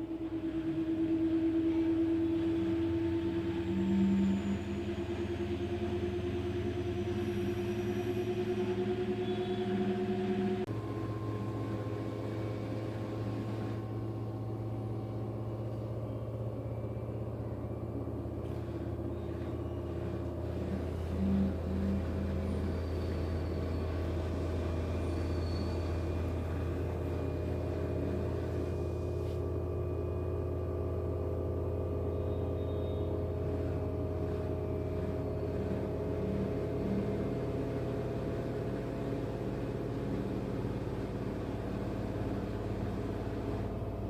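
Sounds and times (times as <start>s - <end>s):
washing machine spin cycle hum: 0.0s - 44.0s.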